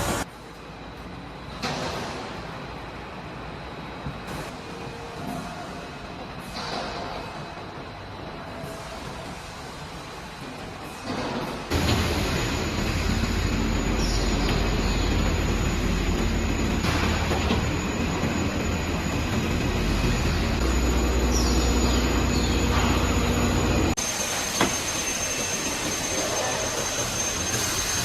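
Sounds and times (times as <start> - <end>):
machinery humming: 0.0 - 1.7, 2.4 - 28.0.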